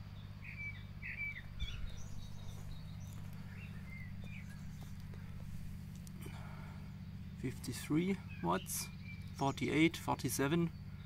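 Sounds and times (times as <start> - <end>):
birds chirping: 0.0 - 11.0
steady low hum: 0.0 - 11.0.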